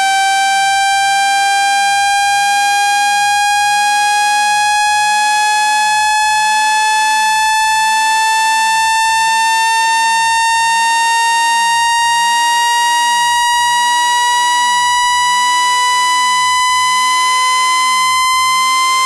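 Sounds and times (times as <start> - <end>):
buzzy electronic tone rising in pitch: 0.0 - 19.0.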